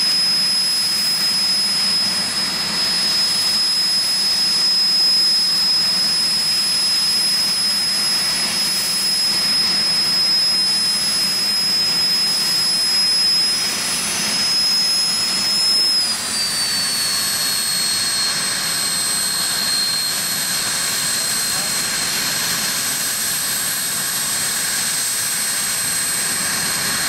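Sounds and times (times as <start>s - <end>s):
high-pitched jet whine: 0.0s - 27.0s
jet engines idling: 0.0s - 27.0s.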